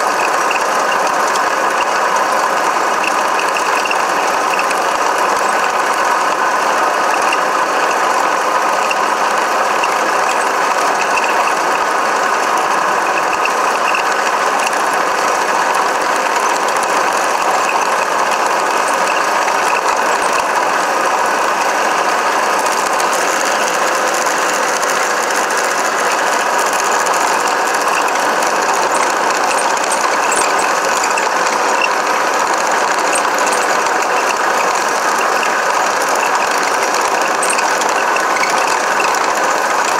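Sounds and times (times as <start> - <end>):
vehicle rattling and clattering: 0.0 - 39.9.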